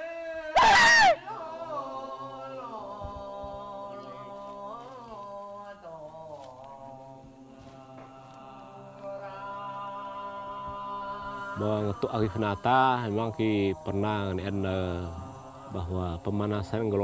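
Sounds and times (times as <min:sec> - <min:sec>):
fuller layer of voices: 0:00.0 - 0:17.0
wordless chanting: 0:00.0 - 0:17.0.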